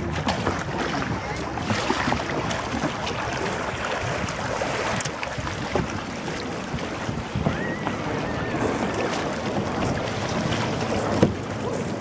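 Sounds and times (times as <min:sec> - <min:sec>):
paddles splashing in water: 0:00.0 - 0:12.0
wind on microphone: 0:00.0 - 0:12.0.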